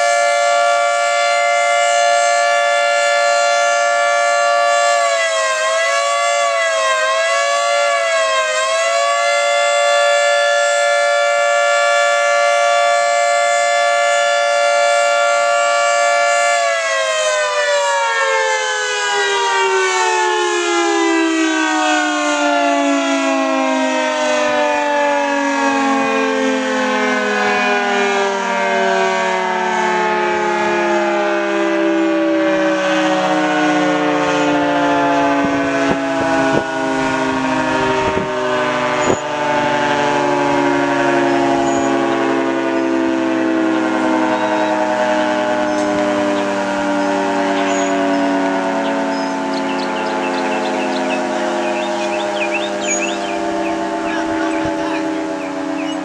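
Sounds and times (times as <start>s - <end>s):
outdoor warning siren chord: 0.0s - 56.0s.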